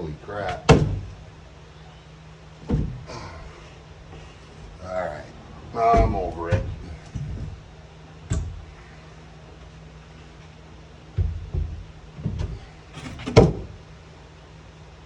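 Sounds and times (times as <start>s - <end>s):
faint low hum: 0.0s - 15.0s
knocks and bumps of panels: 0.4s - 1.4s, 2.6s - 14.0s.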